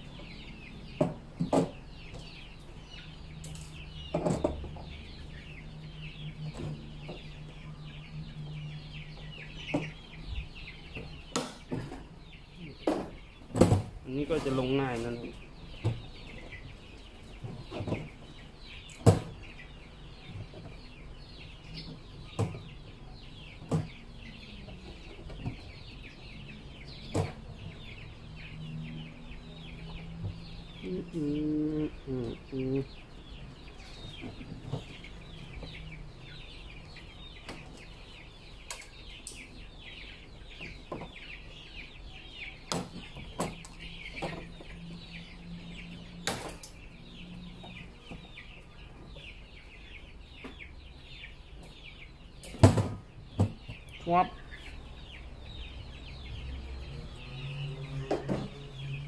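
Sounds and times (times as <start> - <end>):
chickens clucking and cheeping: 0.0 - 59.0.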